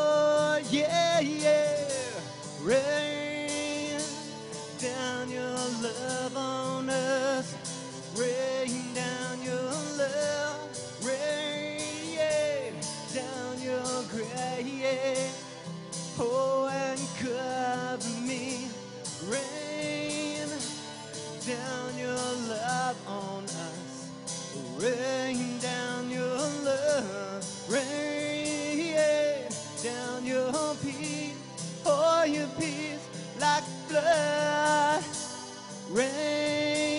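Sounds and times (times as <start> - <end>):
acoustic guitar strumming: 0.0 - 36.9
man singing: 0.0 - 36.9.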